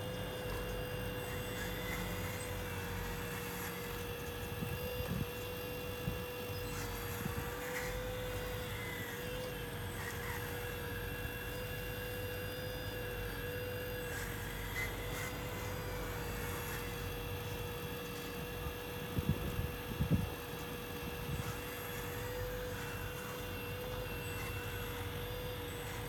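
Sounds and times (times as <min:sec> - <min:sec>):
toy excavator motor whine: 0:00.0 - 0:26.0.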